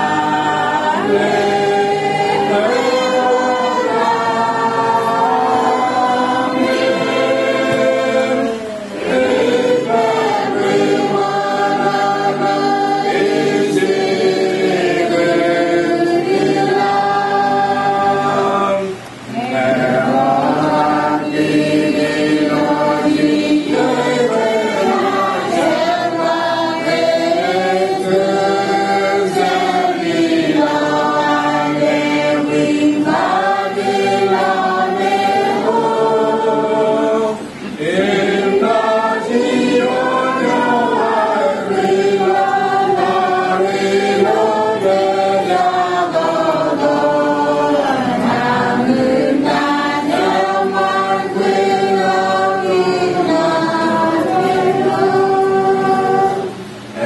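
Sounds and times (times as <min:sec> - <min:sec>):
group singing a hymn unaccompanied: 0:00.0 - 0:57.0.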